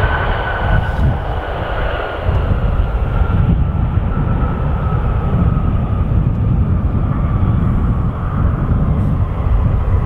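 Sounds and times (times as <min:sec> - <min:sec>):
jet engine high whine: 0:00.0 - 0:10.0
jet engines roaring: 0:00.0 - 0:10.0.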